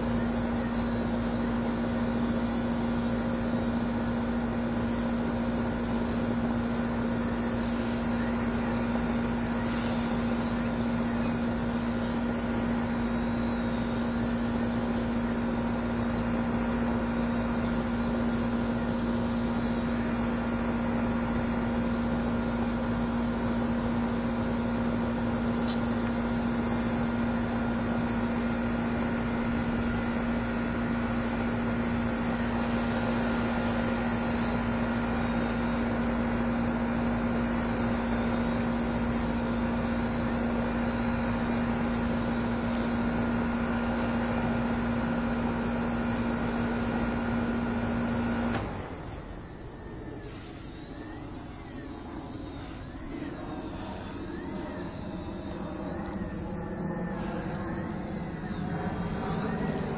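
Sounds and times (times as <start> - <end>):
higher wavering whine: 0.0 - 59.9
rc helicopter motor whine: 0.0 - 59.9.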